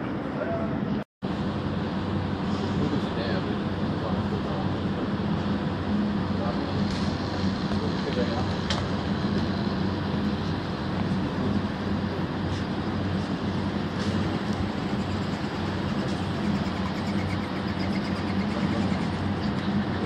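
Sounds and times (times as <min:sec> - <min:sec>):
motor hum: 0:01.3 - 0:20.0.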